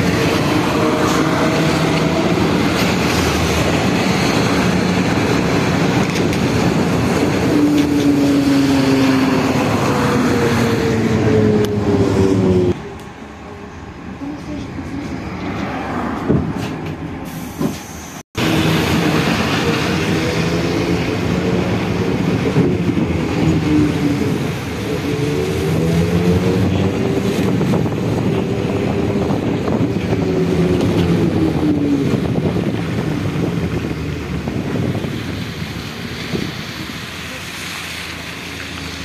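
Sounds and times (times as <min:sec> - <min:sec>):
trolleybus running with electric whine: 0:00.0 - 0:39.0.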